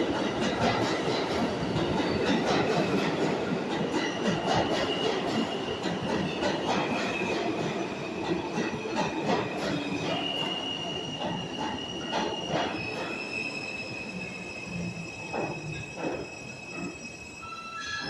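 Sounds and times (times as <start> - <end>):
train wheels squealing on rails: 0.0 - 18.0.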